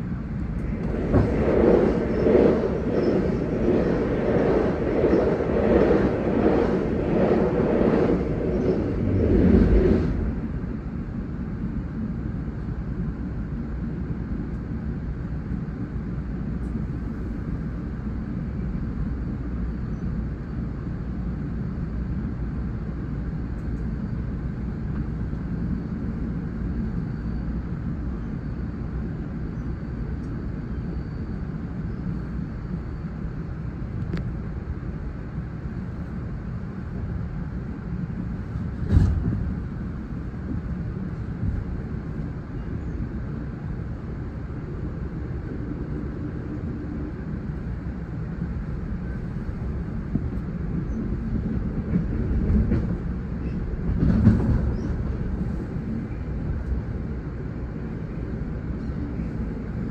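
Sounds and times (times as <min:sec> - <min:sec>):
passing train rushing by: 0:00.0 - 0:14.1, 0:14.9 - 0:59.9
train rumbling on track: 0:00.0 - 0:59.9.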